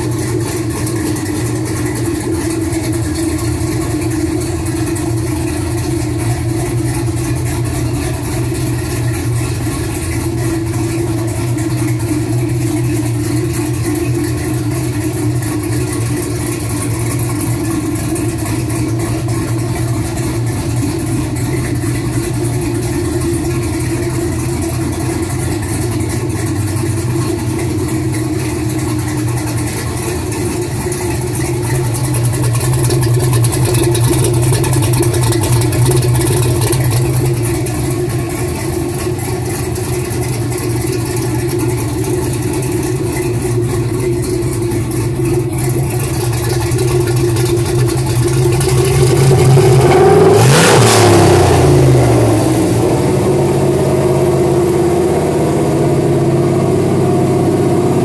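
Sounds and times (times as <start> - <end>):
engine idling: 0.0 - 58.0
engine throttle blip: 0.0 - 58.0.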